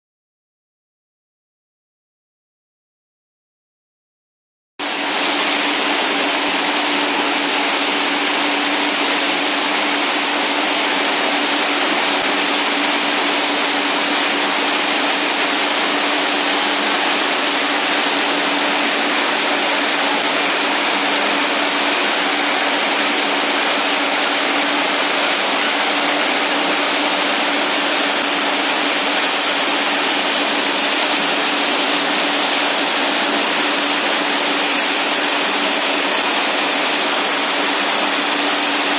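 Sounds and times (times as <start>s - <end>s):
machine noise with hum: 4.8s - 38.9s.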